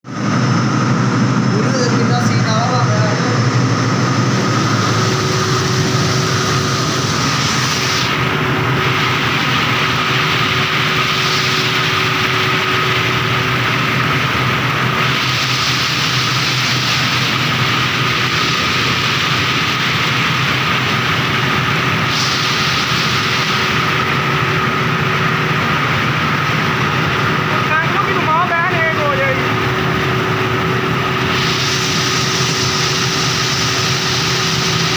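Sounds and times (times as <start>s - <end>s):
thin constant whine: 0.1s - 34.9s.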